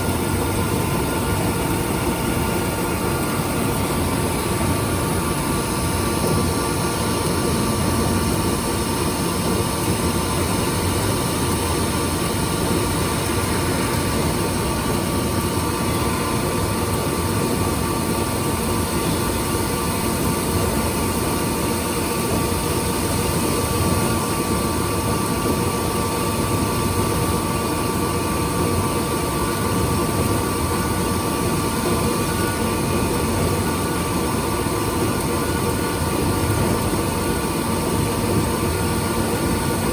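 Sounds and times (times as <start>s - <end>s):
milling machine running: 0.0s - 39.9s.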